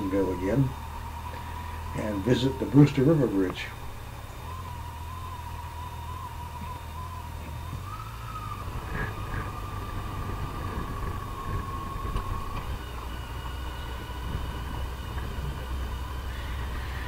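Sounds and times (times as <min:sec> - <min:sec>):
motorcycle engine hum: 0:00.0 - 0:17.0
thin steady whine: 0:00.0 - 0:17.0
wind and road noise: 0:00.0 - 0:17.0.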